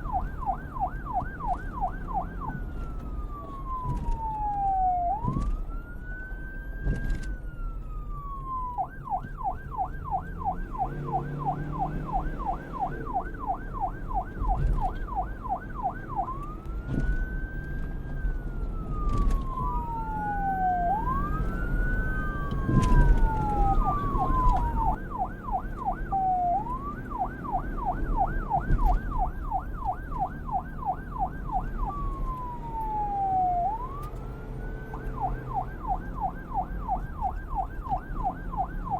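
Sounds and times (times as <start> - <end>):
police siren wailing and yelping: 0.0 - 38.9.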